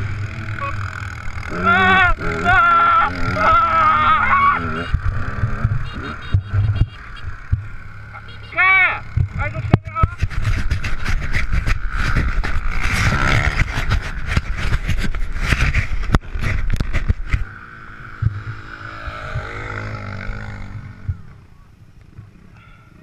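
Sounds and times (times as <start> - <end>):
dirt bike engine running: 0.0 - 22.4.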